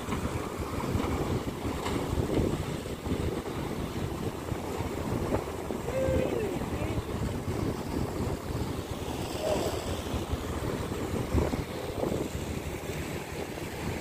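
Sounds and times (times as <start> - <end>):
jet ski engine running: 0.0 - 14.0
small waves washing onto shore: 0.0 - 14.0
wind buffeting microphone: 0.0 - 14.0.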